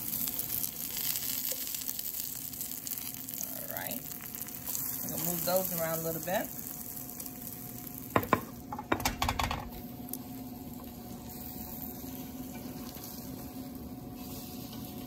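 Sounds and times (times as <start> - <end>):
croquettes sizzling in a frying pan: 0.0 - 15.0.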